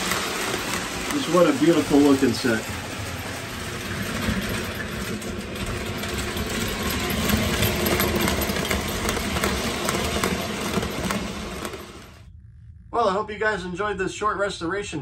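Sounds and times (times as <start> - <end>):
model train rumbling on track: 0.0 - 12.2.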